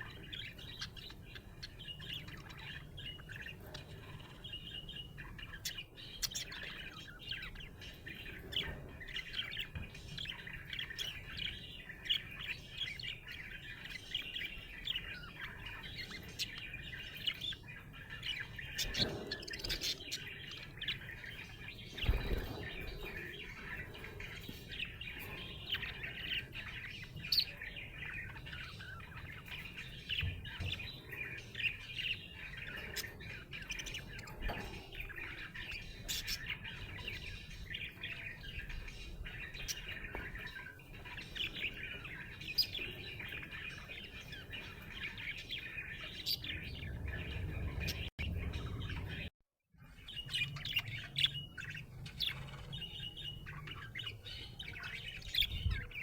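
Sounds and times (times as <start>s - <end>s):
budgerigar chirping and chattering: 0.0s - 49.3s.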